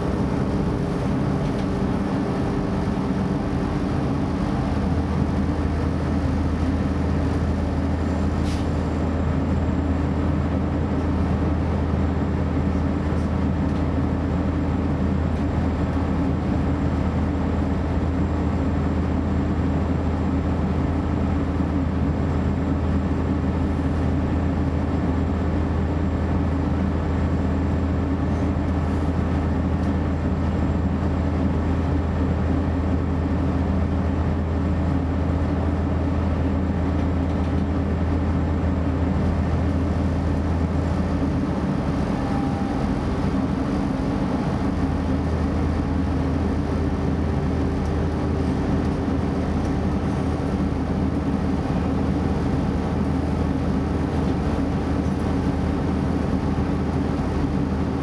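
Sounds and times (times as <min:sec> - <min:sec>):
low diesel train drone: 0:00.0 - 0:58.0.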